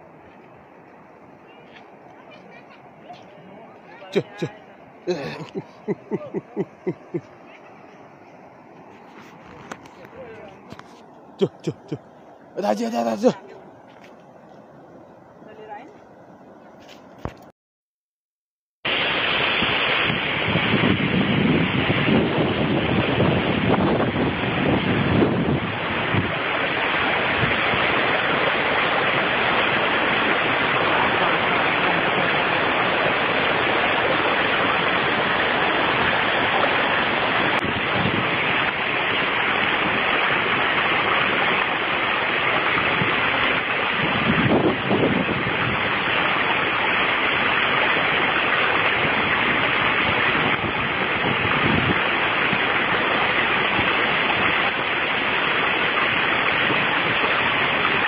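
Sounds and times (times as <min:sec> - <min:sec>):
mountain stream over stones: 0:00.0 - 0:17.5, 0:18.9 - 0:58.0.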